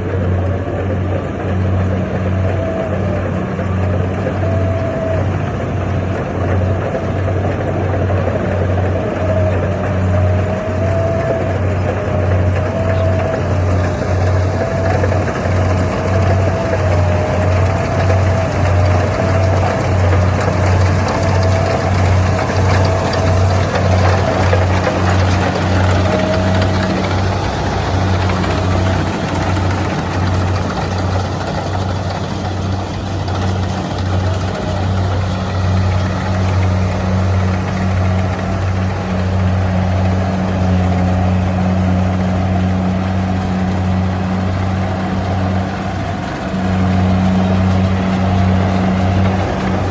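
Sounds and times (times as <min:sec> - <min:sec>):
combine harvester engine drone: 0:00.0 - 0:49.9
wavering higher whine: 0:00.0 - 0:49.9.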